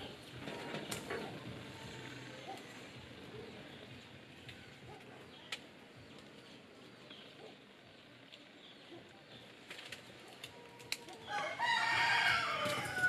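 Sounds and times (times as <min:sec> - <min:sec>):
forest ambience: 0:00.0 - 0:13.0.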